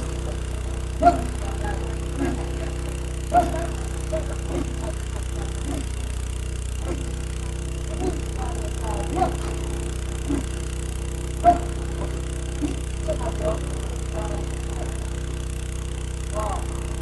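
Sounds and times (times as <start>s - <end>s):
drilling rig engine running: 0.0s - 17.0s.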